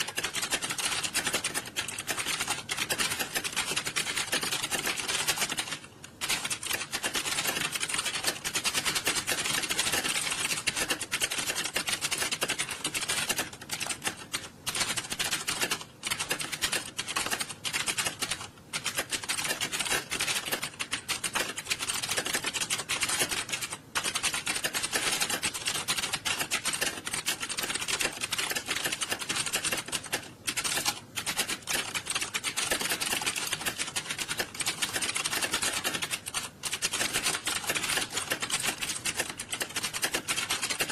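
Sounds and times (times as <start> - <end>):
keyboards clattering: 0.0 - 40.9.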